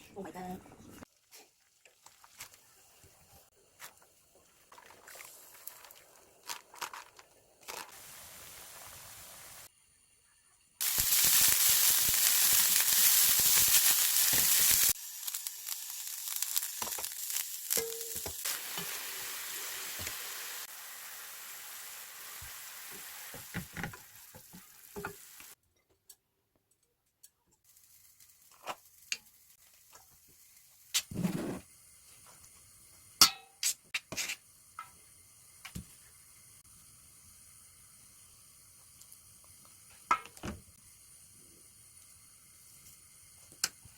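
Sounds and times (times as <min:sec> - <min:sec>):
food sizzling in a pan: 0:01.0 - 0:25.6, 0:27.6 - 0:43.9.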